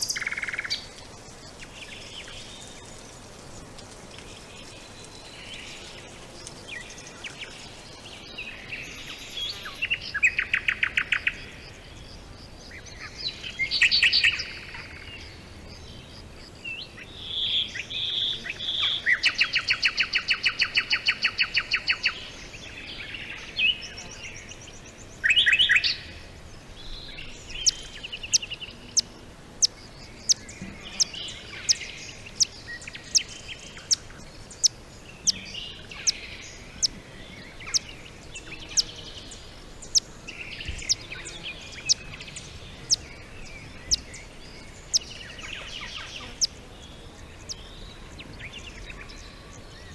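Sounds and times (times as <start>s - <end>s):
faint steady hiss: 0.0s - 49.9s
songbirds singing: 0.0s - 49.9s.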